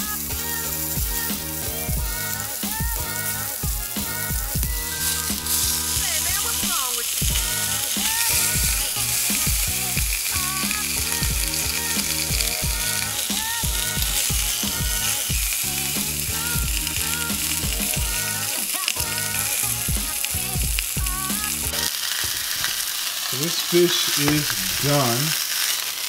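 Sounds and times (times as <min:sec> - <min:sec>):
background music with steady beat: 0:00.0 - 0:21.9
fish sizzling in a frying pan: 0:00.0 - 0:26.0.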